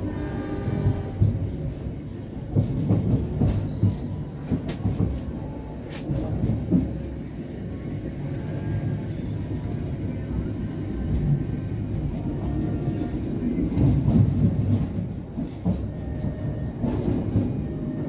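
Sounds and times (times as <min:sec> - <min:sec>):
train wheels rumbling and clattering: 0:00.0 - 0:18.0.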